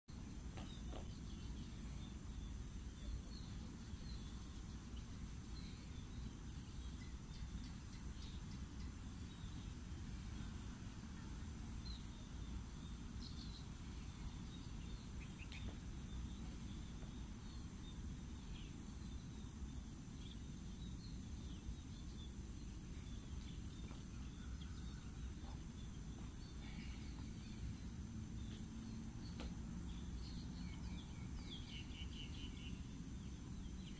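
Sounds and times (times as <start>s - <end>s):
faint high hum: 0.1s - 33.9s
bird chirps: 0.6s - 9.9s, 11.0s - 33.9s.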